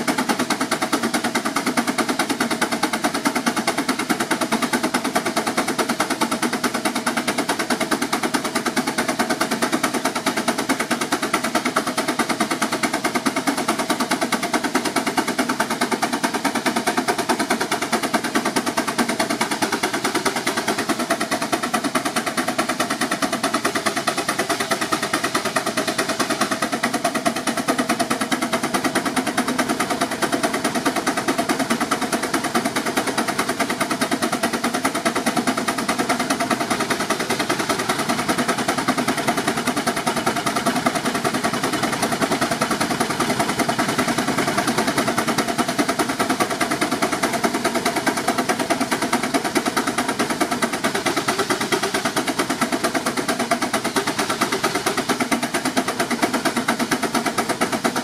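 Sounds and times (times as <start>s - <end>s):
steam engine exhaust beats: 0.0s - 58.0s.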